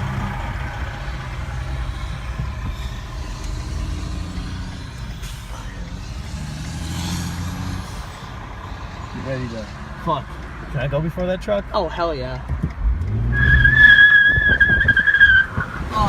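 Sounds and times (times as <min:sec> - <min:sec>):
truck engine running: 0:00.0 - 0:13.4
car engine rumble: 0:00.0 - 0:16.0.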